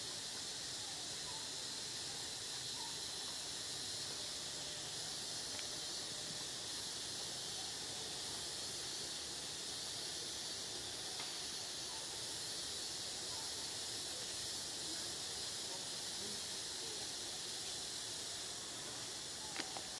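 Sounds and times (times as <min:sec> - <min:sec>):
steady high hiss: 0:00.0 - 0:19.9.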